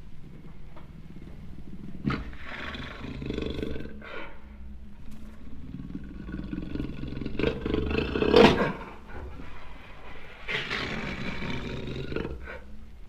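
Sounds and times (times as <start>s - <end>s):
jaguar roaring: 0.8s - 9.3s, 10.2s - 12.8s.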